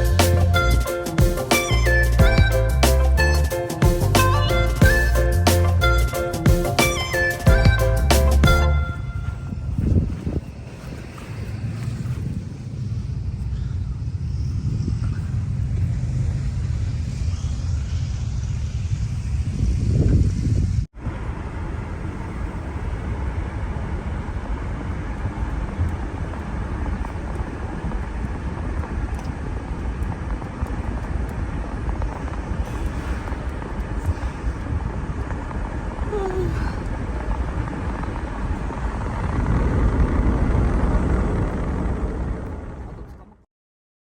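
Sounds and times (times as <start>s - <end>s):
moving vehicle rumble: 0.0s - 43.4s.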